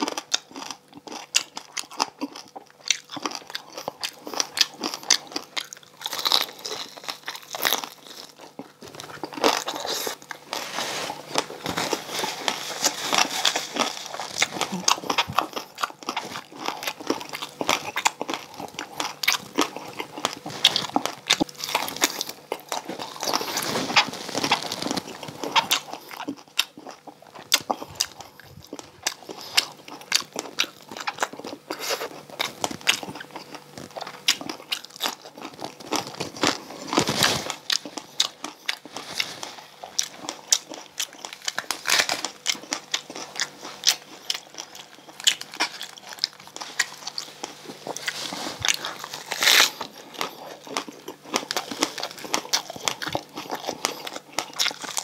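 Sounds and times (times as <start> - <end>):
chewing: 0.0 - 55.0
crispy food crunching: 0.0 - 55.0.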